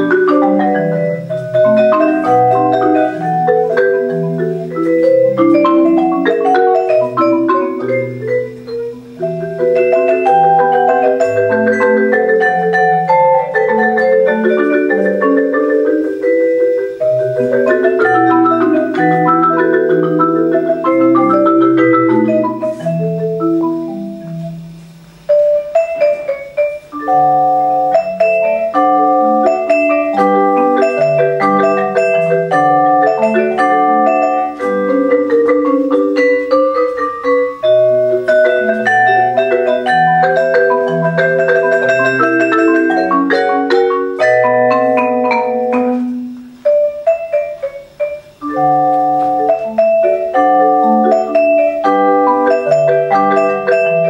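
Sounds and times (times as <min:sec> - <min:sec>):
marimba: 0:00.0 - 0:54.0
vibraphone: 0:00.0 - 0:54.0.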